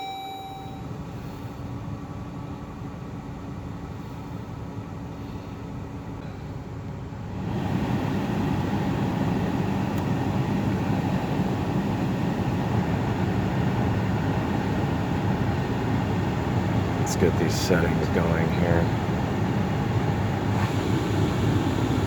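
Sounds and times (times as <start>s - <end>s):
car engine running: 0.6s - 22.0s.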